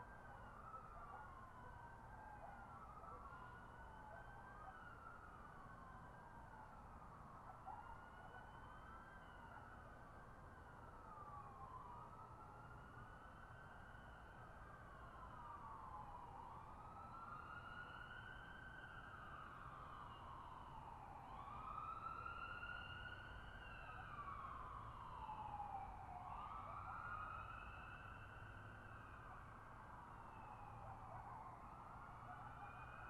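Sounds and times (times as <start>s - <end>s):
police siren wailing: 0.2s - 33.0s.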